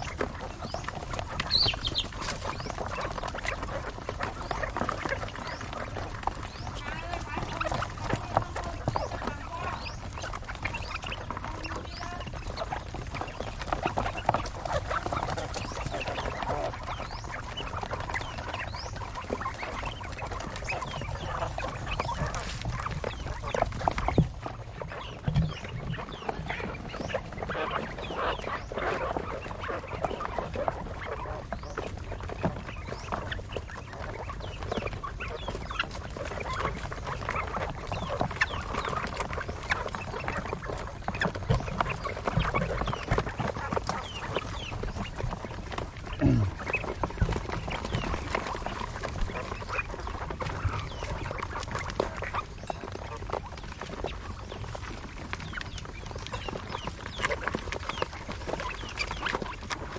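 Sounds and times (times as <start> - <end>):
quail chirping: 0.0 - 59.9.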